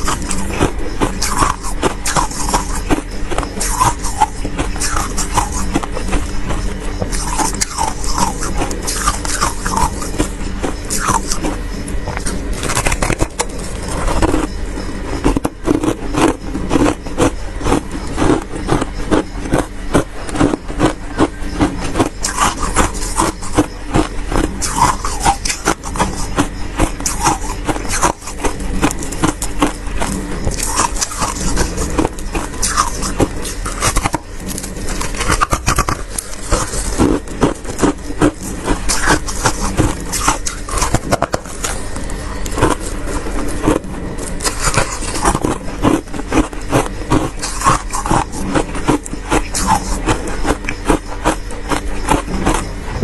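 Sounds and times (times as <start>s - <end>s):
frost scraping: 0.0s - 53.0s.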